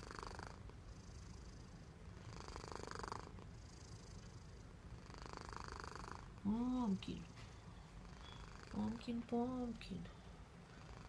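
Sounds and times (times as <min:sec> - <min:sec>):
cat snoring: 0:00.0 - 0:09.2, 0:10.6 - 0:11.0.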